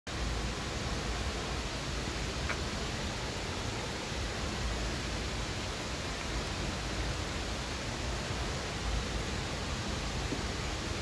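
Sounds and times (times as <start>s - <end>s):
mountain stream rushing: 0.1s - 11.0s.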